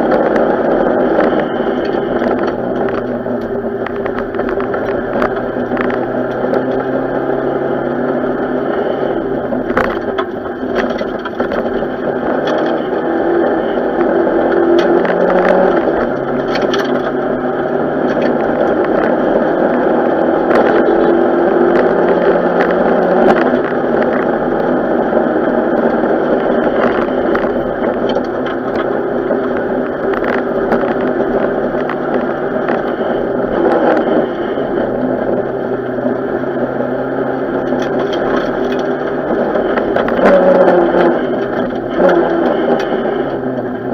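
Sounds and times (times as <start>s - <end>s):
rally car engine shifting gears: 0.0s - 43.9s.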